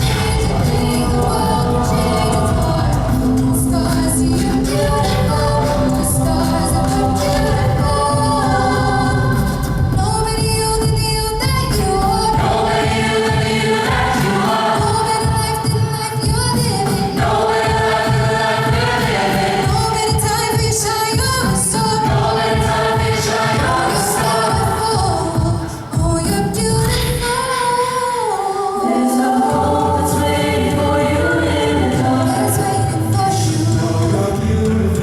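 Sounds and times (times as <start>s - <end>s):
vocal ensemble singing in harmony: 0.0s - 35.0s.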